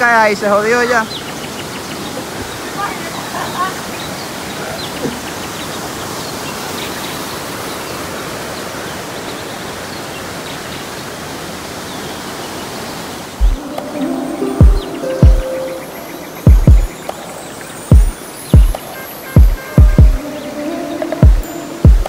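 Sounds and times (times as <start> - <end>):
waterfall rushing into pool: 0.0 - 22.0.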